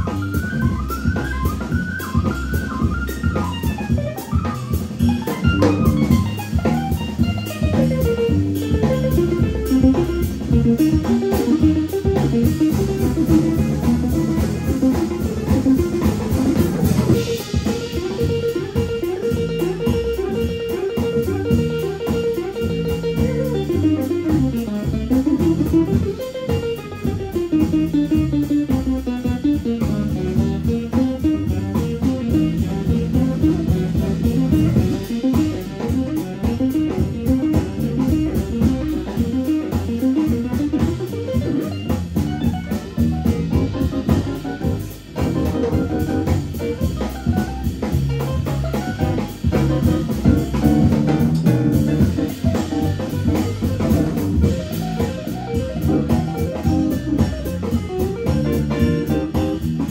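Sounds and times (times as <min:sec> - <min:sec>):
drum kit: 0:00.0 - 0:59.9.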